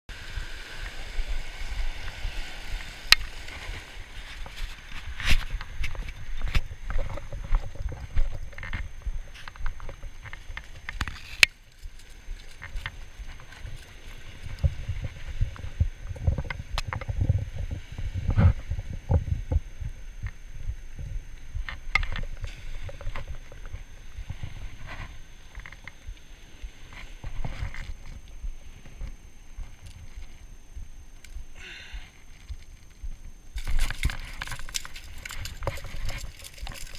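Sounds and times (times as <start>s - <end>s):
wind rumbling on microphone: 0.1s - 36.9s.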